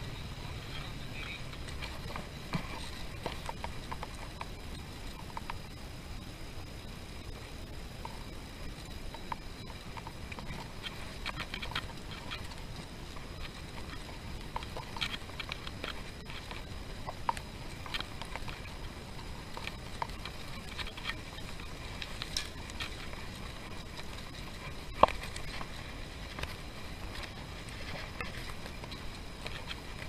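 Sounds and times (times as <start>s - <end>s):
bicycle tyres on road: 0.0s - 30.0s
wind: 0.0s - 30.0s
light clicks and ticks: 0.7s - 5.8s, 6.7s - 30.0s.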